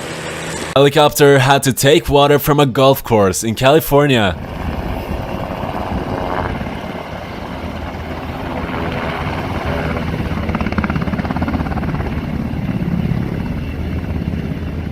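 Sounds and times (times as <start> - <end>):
helicopter rotor beating: 0.0 - 1.6, 3.3 - 14.9.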